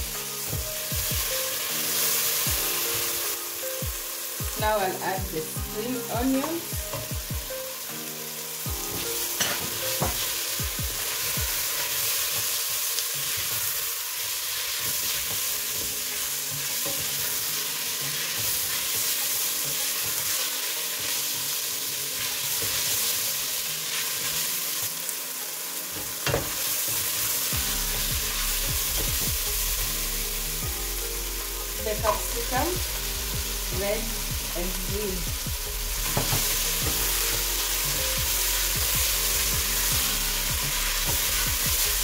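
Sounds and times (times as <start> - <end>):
onions sizzling in hot oil: 0.0 - 42.0.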